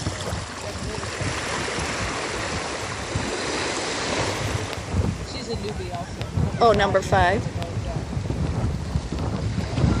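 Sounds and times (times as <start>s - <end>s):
water rushing: 0.0s - 8.4s
wind on microphone: 0.0s - 10.0s.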